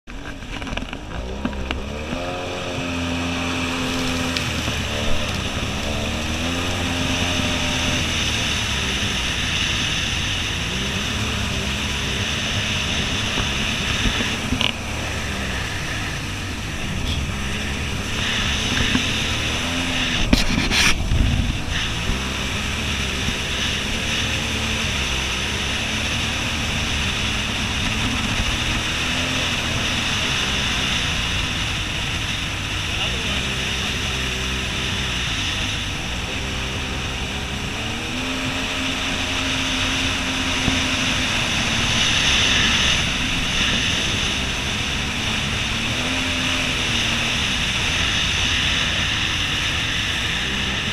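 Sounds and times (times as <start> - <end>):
jet ski engine running: 0.0 - 50.9
wind noise: 0.1 - 50.9
water spray: 2.5 - 50.9.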